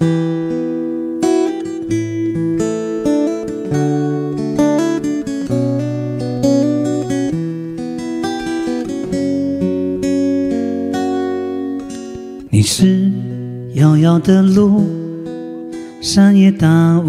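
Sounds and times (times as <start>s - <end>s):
acoustic guitar picked chords: 0.0s - 17.0s.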